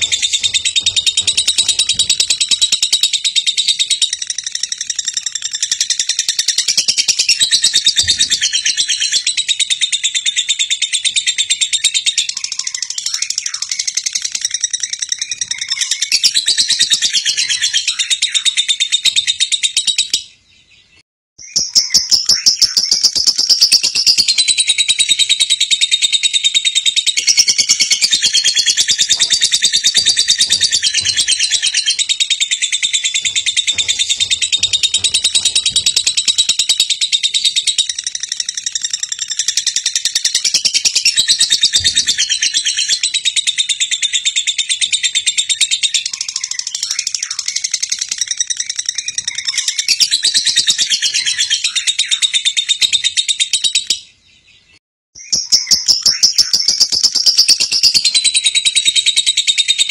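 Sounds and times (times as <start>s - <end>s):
chorus of birds chirping: 0.0s - 59.9s.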